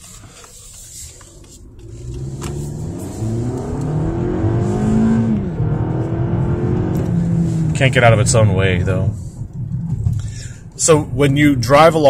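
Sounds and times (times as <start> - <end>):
car engine revving: 1.2 - 12.0.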